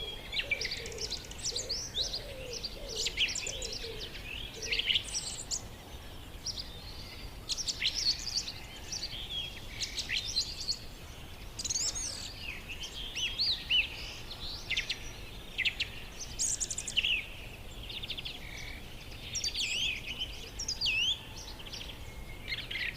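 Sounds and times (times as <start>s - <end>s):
birds chirping and whistling: 0.0s - 22.9s.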